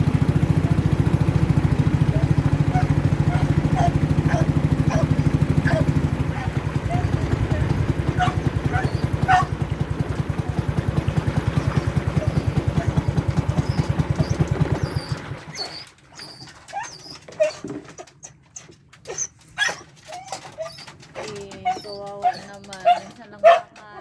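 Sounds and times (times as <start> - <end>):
boat engine pulsing: 0.0 - 24.0
dog whimpering: 2.1 - 9.5, 11.5 - 24.0.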